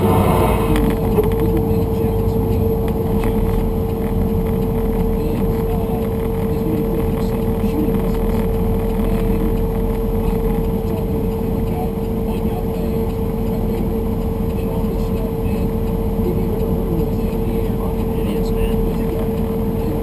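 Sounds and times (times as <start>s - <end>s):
constant engine whine: 0.0s - 20.0s
truck engine droning: 0.0s - 20.0s.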